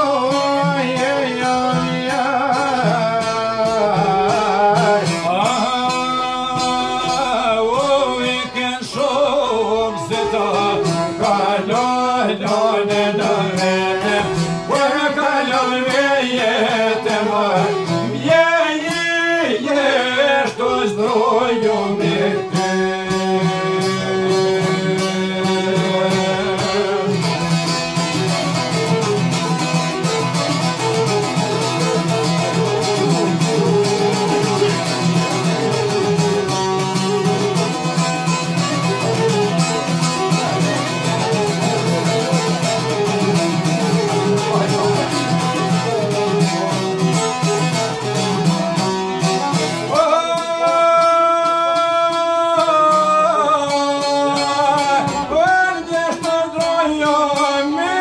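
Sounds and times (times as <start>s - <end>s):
man singing: 0.0s - 58.0s
plucked lute: 0.0s - 58.0s
violin: 0.0s - 58.0s.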